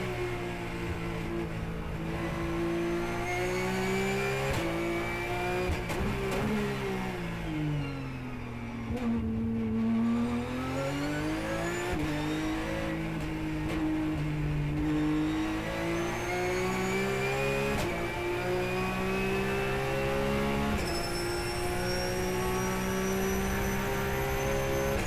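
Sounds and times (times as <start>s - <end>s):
race car engine from inside: 0.0s - 25.0s.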